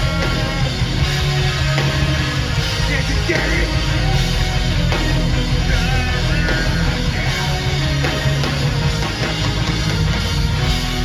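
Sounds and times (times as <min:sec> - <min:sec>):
electric guitars: 0:00.0 - 0:11.0
punk rock band playing: 0:00.0 - 0:11.0.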